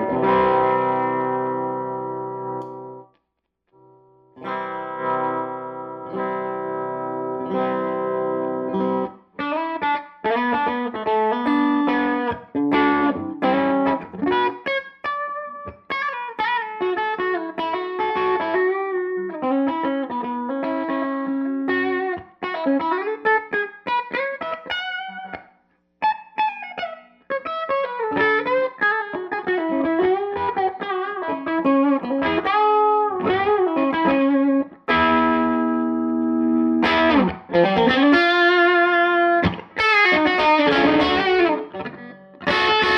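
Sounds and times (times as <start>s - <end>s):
overdriven electric guitar: 0.0s - 3.1s, 3.8s - 42.9s.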